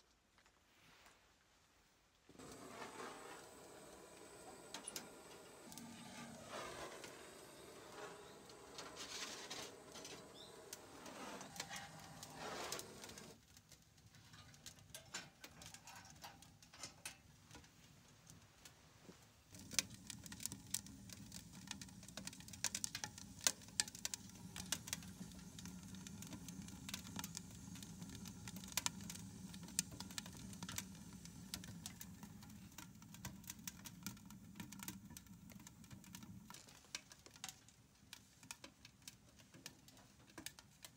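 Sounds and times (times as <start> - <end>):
low hum of burning stove: 2.2 - 40.9
wood fire crackling: 2.3 - 40.9.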